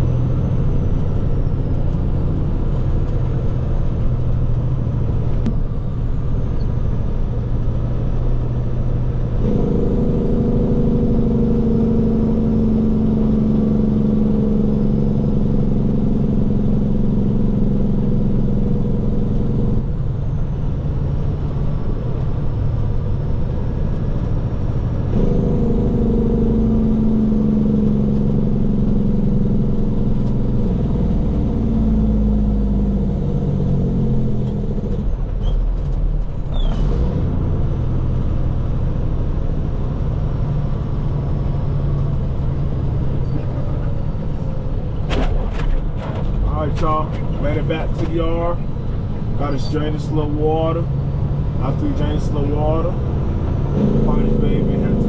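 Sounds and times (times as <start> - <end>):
engine drone with falling pitch: 0.0 - 55.0
road noise: 0.0 - 55.0
truck engine rumble: 0.0 - 55.0.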